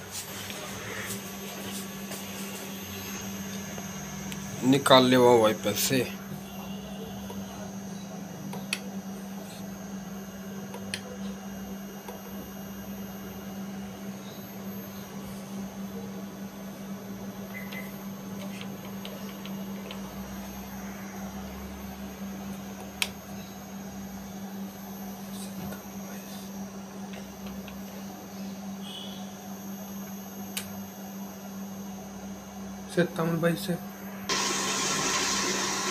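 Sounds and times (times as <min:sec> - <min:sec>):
electrical hum: 0:00.0 - 0:35.9.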